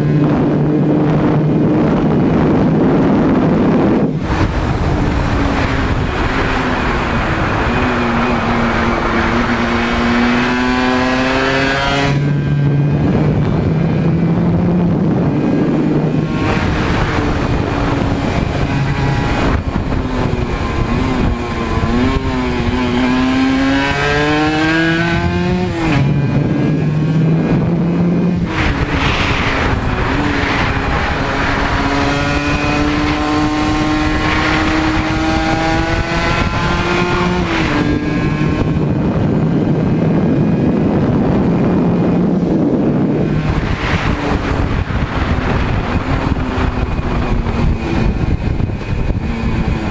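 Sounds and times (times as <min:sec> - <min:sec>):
two-stroke engine under hard throttle: 0:00.0 - 0:49.9
wind rush over microphone: 0:00.0 - 0:49.9.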